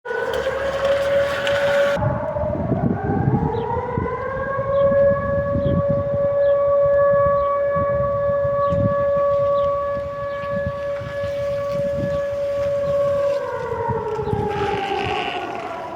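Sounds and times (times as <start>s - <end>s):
siren steady wail: 0.0s - 15.9s
second rising siren tone: 0.1s - 15.9s.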